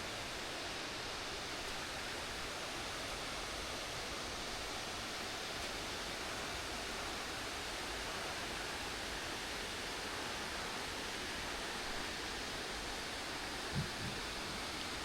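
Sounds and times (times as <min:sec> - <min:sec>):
fast-flowing water rushing: 0:00.0 - 0:15.0.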